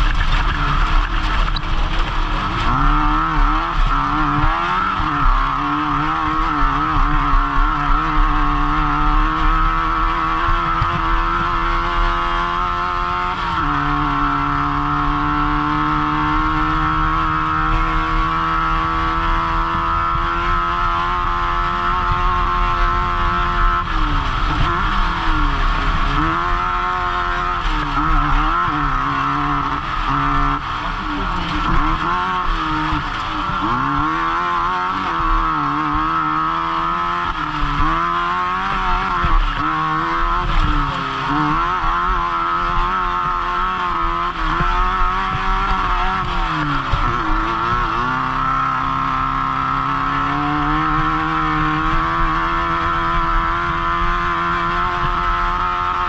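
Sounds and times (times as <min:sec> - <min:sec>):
race engine revving: 0:00.0 - 0:56.0.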